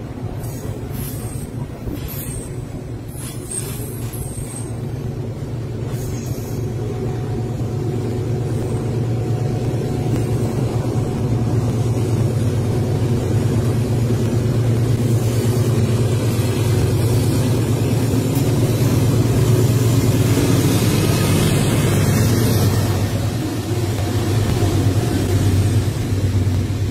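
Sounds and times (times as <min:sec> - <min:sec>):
freight train rumbling past: 0:00.0 - 0:26.9.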